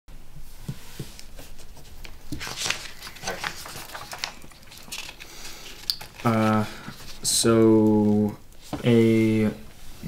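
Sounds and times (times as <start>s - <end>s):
pages rustling: 0.6s - 10.0s.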